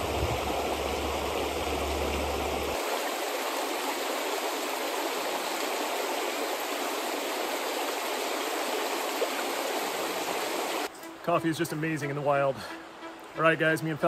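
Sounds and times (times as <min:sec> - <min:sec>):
creek babbling over rocks: 0:00.0 - 0:14.0.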